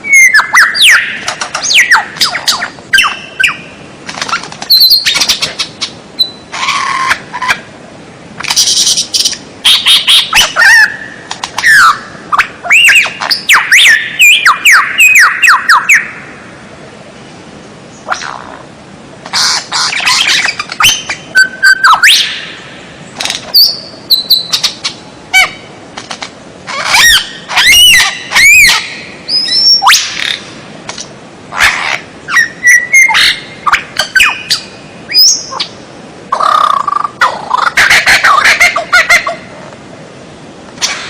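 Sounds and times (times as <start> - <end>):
songbird chirps and trills: 0.0 - 7.8, 8.4 - 39.7.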